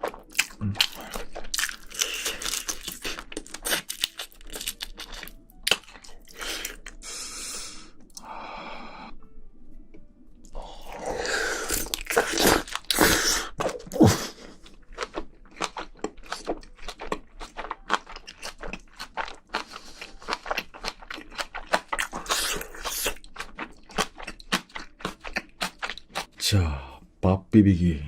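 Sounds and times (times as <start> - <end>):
chewing with wet crunches: 0.0 - 7.0, 10.8 - 26.3.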